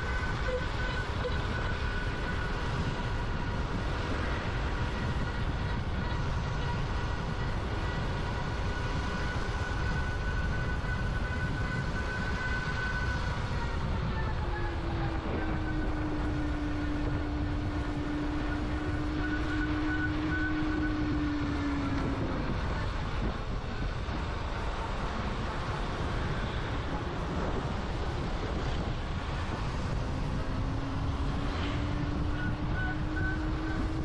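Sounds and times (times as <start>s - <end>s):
motorbike whine: 0.0s - 34.0s
wind and road noise: 0.0s - 34.0s.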